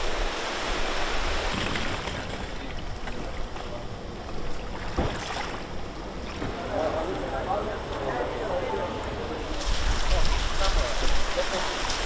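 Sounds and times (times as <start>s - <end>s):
storm wind and rain: 0.0s - 12.0s.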